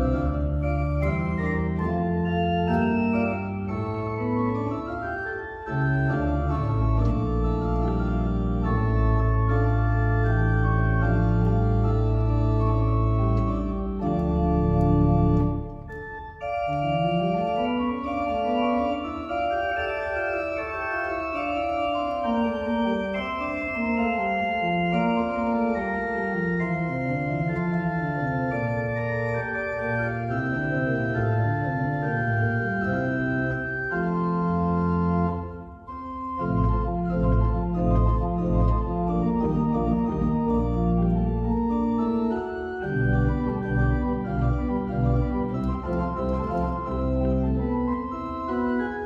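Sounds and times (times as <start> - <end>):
pipe organ playing slow music: 0.0 - 49.0.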